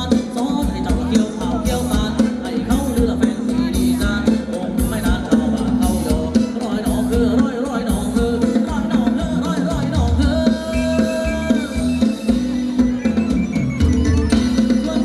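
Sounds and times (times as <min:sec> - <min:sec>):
person singing: 0:00.0 - 0:13.2, 0:14.3 - 0:15.0
live band playing dance music: 0:00.0 - 0:15.0.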